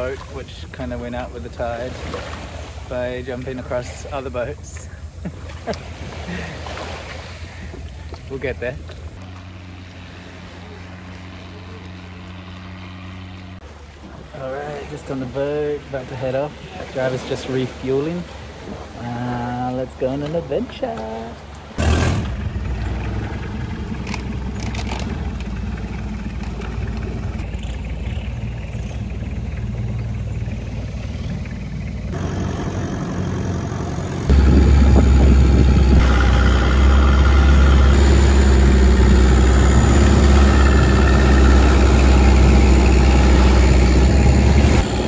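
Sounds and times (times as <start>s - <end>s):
boat engine running: 0.0s - 17.3s, 21.8s - 45.0s.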